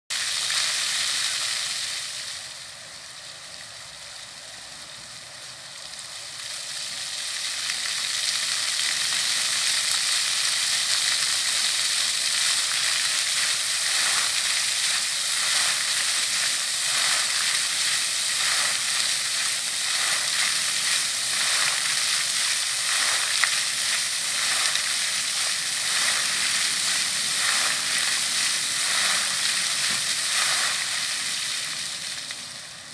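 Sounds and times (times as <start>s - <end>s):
fountain water splashing: 0.1s - 32.9s.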